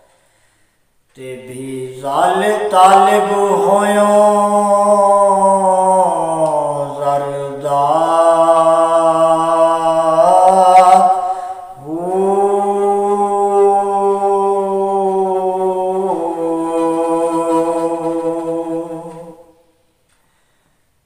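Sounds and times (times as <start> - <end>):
man singing unaccompanied: 1.1 - 19.6.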